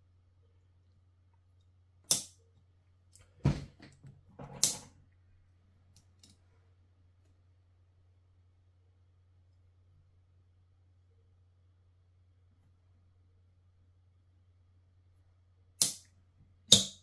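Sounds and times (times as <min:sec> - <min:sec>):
faint low hum: 0:00.0 - 0:16.7.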